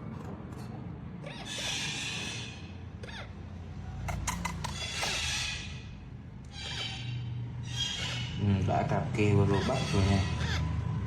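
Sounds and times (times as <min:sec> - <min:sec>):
parrot squawking: 0:01.2 - 0:08.7, 0:09.3 - 0:11.0.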